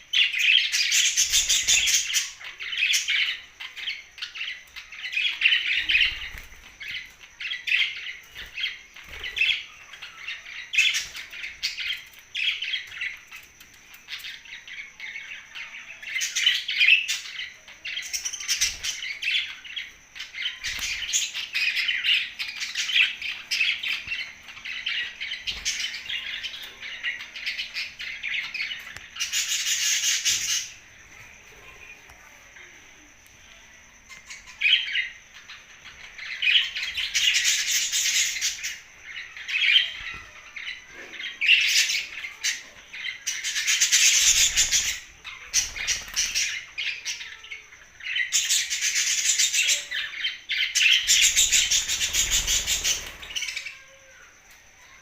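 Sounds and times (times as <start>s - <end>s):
budgerigars chirping and chattering: 0.0s - 32.3s, 34.0s - 54.0s.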